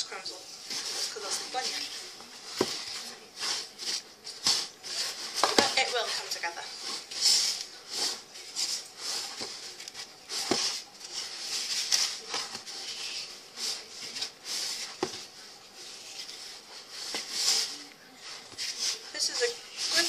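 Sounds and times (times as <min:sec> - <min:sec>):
hands rubbing crumbly dough: 0:00.4 - 0:20.0.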